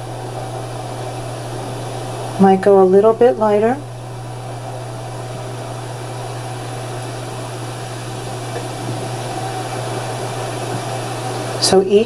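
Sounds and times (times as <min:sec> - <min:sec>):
even hiss: 0:00.0 - 0:12.0
steady low hum: 0:00.0 - 0:12.0.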